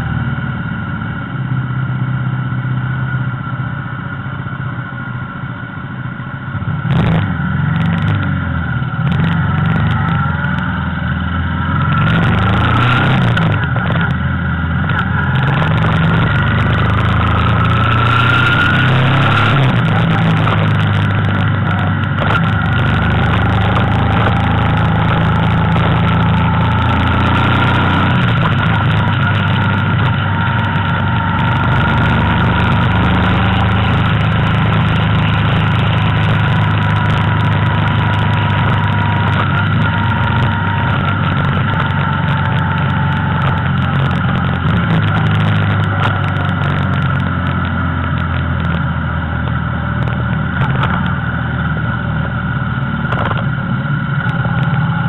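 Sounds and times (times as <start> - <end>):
motorcycle engine running: 0.0 - 55.0
road noise: 0.0 - 55.0
steady whine: 0.0 - 55.0
wind noise: 6.6 - 55.0.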